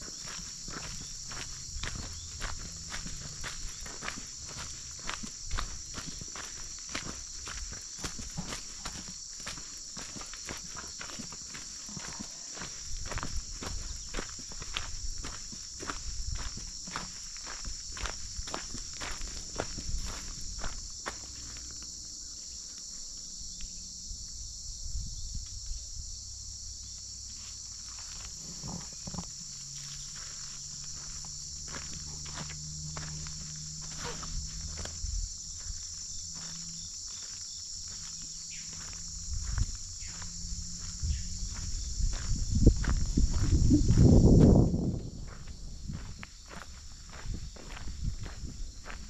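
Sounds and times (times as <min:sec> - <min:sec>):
footsteps on gravel: 0:00.0 - 0:22.1, 0:27.3 - 0:49.0
insects chirping: 0:00.0 - 0:49.0.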